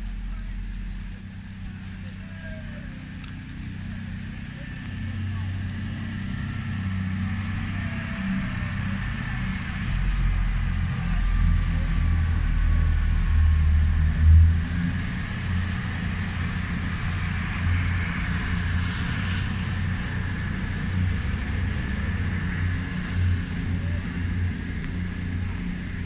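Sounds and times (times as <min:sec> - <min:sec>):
passenger train running past: 0:00.0 - 0:26.0.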